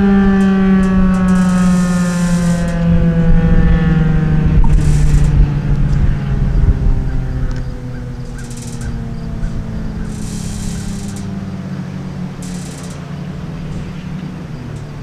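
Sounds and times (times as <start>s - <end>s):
siren winding down: 0.0s - 15.0s.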